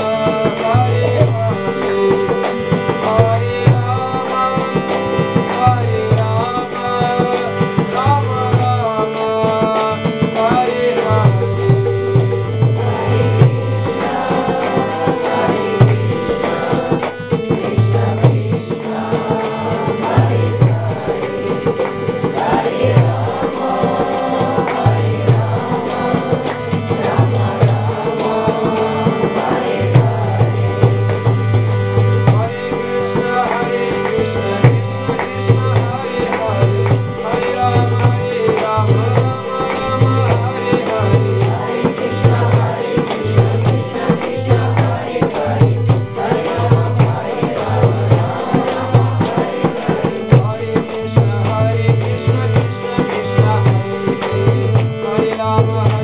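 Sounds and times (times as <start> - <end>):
harmonium chords: 0.0 - 56.0
man singing: 0.0 - 56.0.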